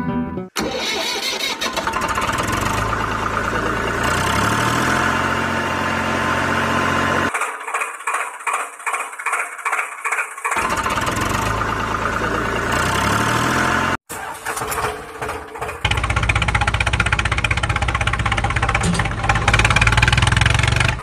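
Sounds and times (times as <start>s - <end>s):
tractor engine starting and running: 0.6s - 21.0s.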